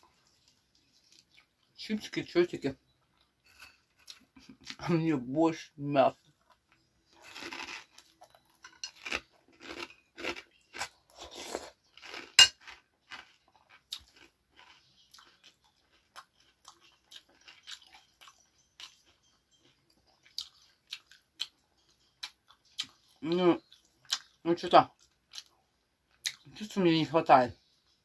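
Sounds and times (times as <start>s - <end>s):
chewing and crunching croutons: 0.0s - 1.8s, 2.9s - 4.8s, 6.2s - 26.7s.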